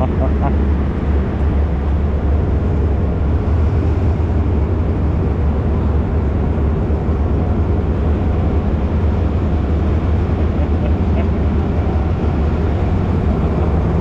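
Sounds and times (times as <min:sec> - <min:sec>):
diesel locomotive idling: 0:00.0 - 0:14.0.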